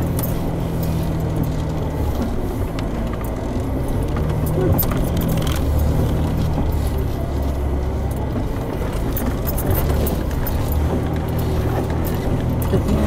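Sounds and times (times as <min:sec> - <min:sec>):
light rattles and clicks: 0:00.0 - 0:13.0
off-road vehicle engine running: 0:00.0 - 0:13.0.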